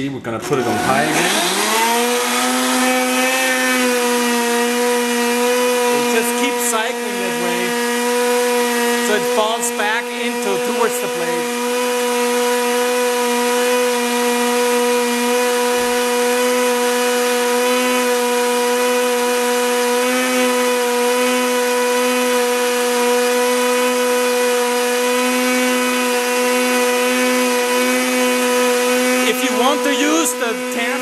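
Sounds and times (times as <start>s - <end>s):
blender motor whining: 0.0s - 31.0s
blade grinding flour: 0.3s - 31.0s.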